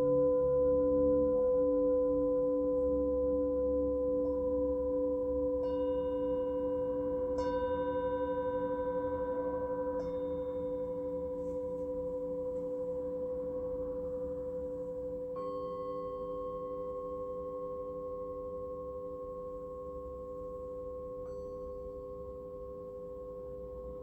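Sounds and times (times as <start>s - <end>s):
singing bowls ringing: 0.0s - 24.0s.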